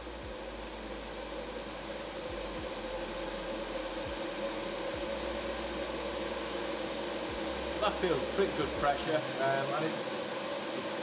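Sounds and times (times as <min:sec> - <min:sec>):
duct fan whirring: 0:00.0 - 0:11.0.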